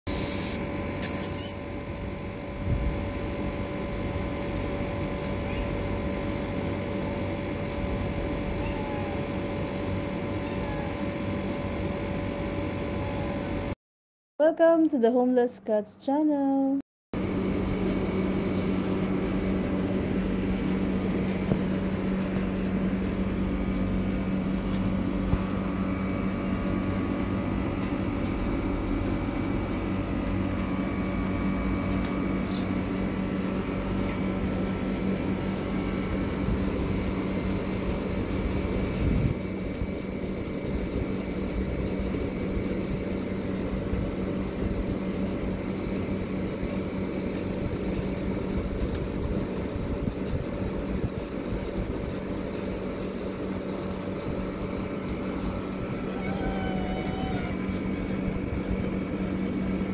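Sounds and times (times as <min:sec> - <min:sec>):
low mechanical hum: 0:00.0 - 0:13.8, 0:14.4 - 0:59.9.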